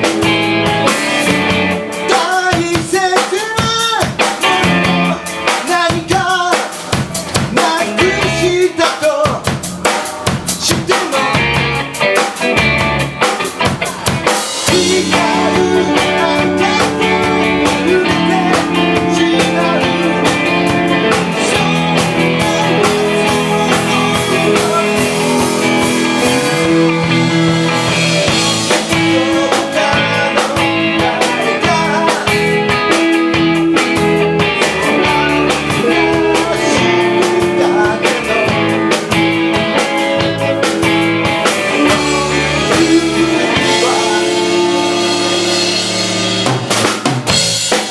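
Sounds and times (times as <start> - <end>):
guitar: 0.0 - 47.9
rock band playing live: 0.0 - 47.9.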